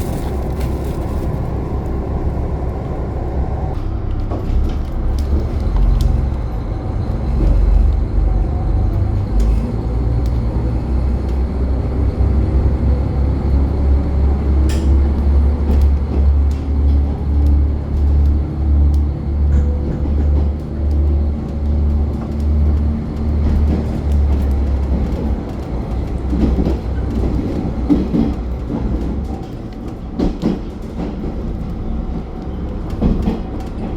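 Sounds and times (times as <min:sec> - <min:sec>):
diesel train rumbling at speed: 0:00.0 - 0:33.9.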